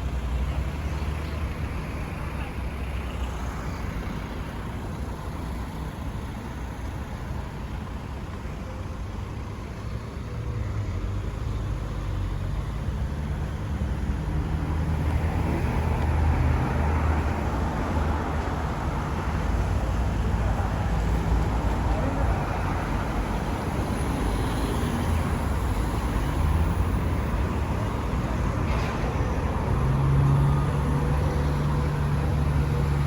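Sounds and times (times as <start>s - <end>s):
traffic road noise rumble: 0.0s - 33.0s.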